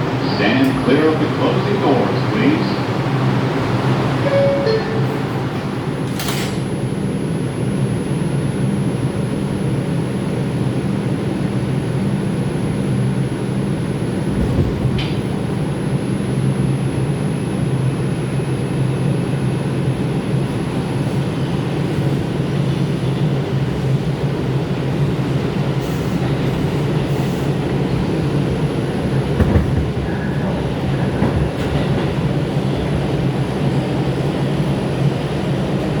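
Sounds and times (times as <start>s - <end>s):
wheels rumbling on rail: 0.0s - 36.0s.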